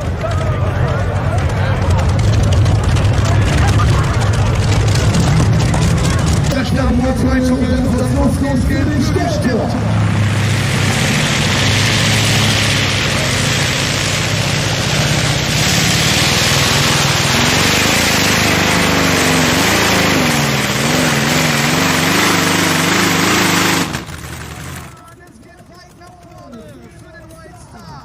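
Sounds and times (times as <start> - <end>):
tractor engine at full throttle: 0.0 - 28.0.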